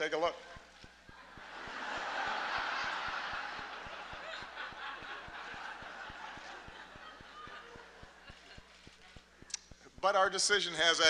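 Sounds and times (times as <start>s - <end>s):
large audience laughing: 0.4s - 9.3s.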